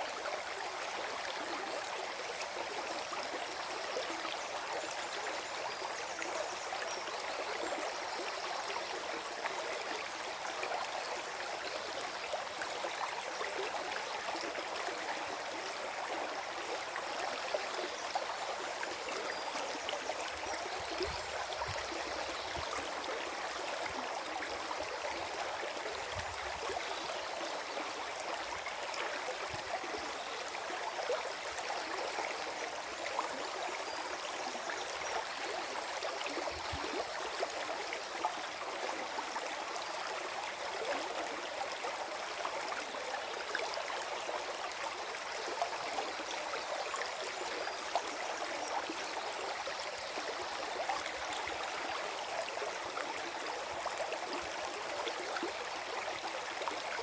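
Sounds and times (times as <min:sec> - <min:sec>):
stream gurgling over stones: 0:00.0 - 0:57.0.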